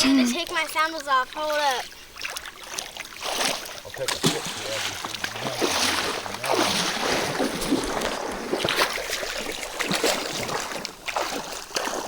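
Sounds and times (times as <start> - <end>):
creek water splashing: 0.0 - 12.0.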